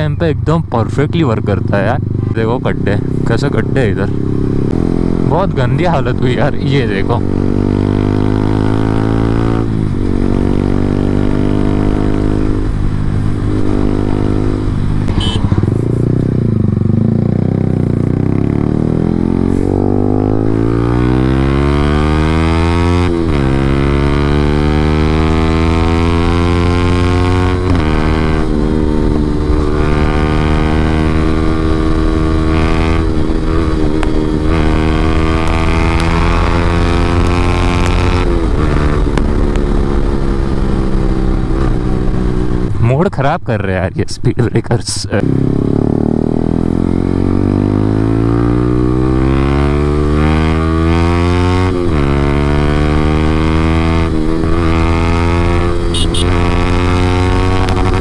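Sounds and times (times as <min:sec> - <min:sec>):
motorcycle engine accelerating: 0:00.0 - 0:42.8, 0:45.1 - 0:58.0.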